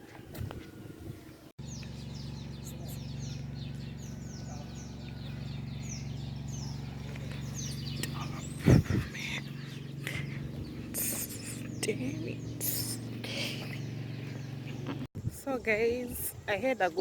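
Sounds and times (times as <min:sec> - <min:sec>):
birds chirping: 0:00.2 - 0:17.0
steady low hum: 0:00.8 - 0:16.5.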